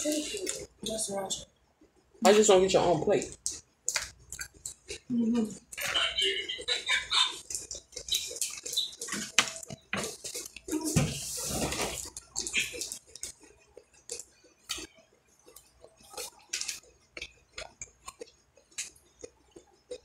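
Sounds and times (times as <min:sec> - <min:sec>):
close-miked chewing: 0:03.2 - 0:20.0.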